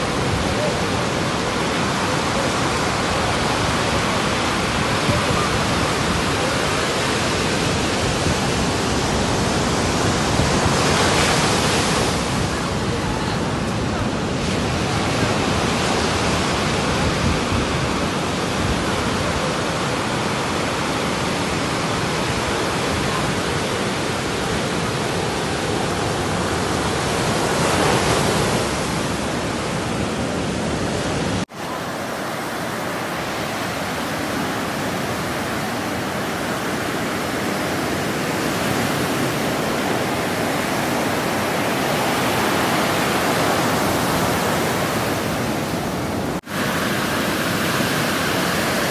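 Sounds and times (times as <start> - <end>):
heavy surf breaking: 0.0 - 48.9.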